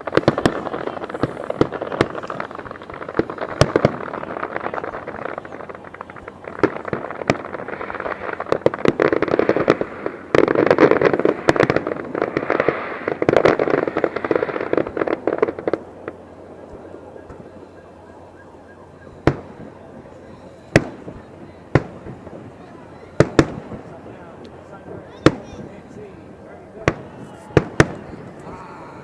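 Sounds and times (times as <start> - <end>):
fireworks bangs and pops: 0.0 - 28.6.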